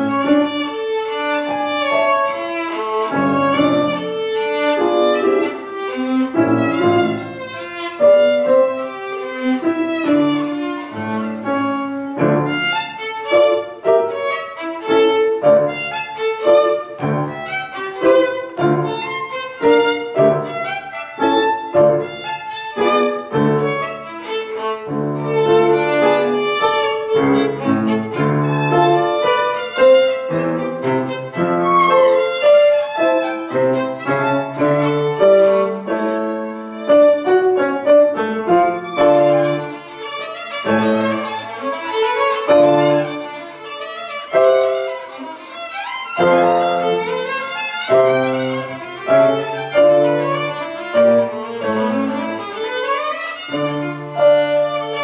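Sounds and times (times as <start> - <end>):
piano accompaniment: 0.0 - 55.0
violin playing: 0.0 - 55.0.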